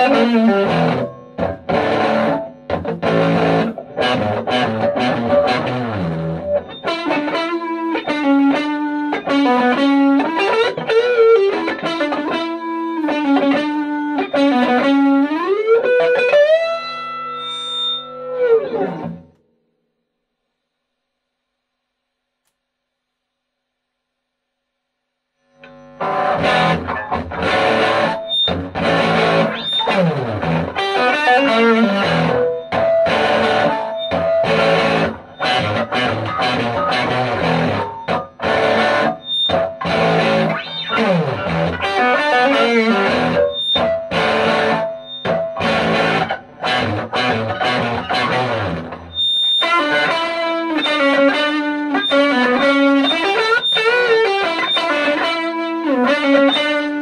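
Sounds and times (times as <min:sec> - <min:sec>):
distorted electric guitar riffing: 0:00.0 - 0:19.4, 0:25.6 - 0:57.0.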